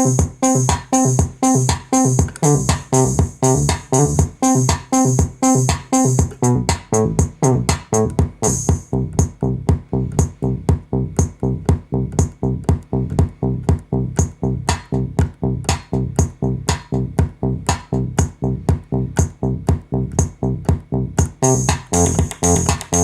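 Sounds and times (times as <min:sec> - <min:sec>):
synthesizer plucked notes pattern: 0:00.0 - 0:23.0.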